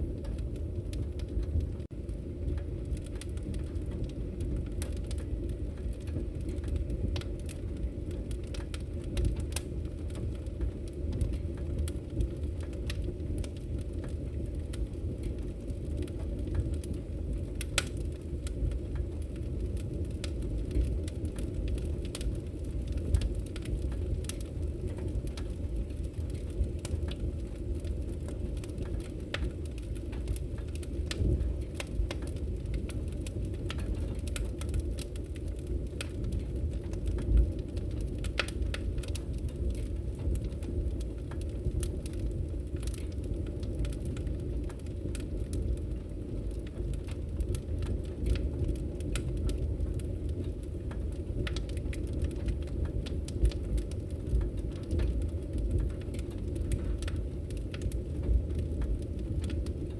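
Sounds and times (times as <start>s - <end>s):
campfire flames rushing: 0.0s - 59.9s
wood crackling and popping: 0.0s - 59.9s.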